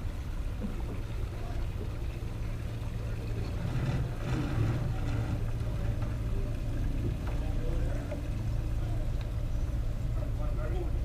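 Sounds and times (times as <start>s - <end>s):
boat engine low hum: 0.0s - 11.0s.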